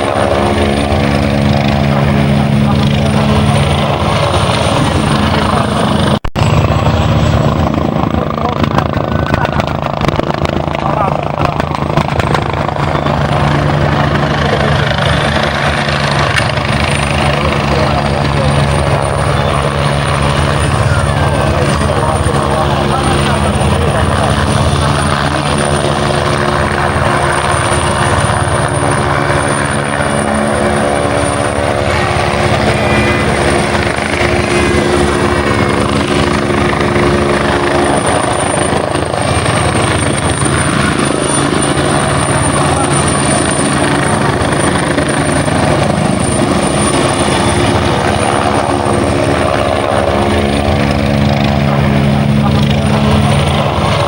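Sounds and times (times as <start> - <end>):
helicopter rotor and engine hum: 0.0 - 54.0
high turbine whine: 0.0 - 54.0.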